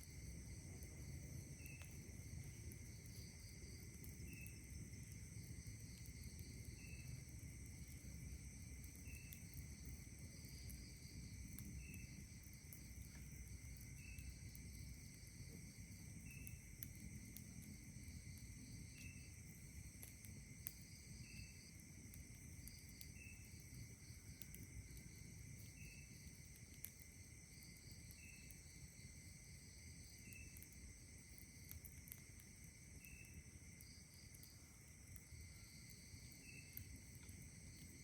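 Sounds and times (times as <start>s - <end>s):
campfire crackling: 0.0s - 38.0s
insects trilling: 0.0s - 38.0s.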